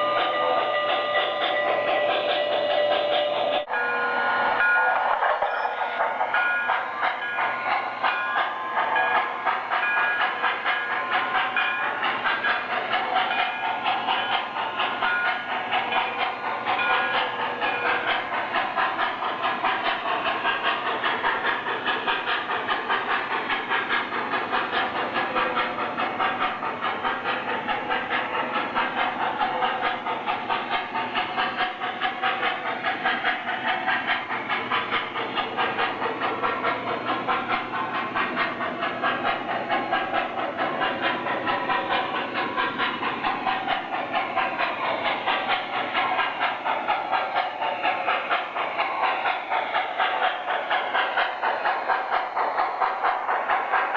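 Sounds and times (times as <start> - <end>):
model train clattering on rails: 0.0 - 53.9.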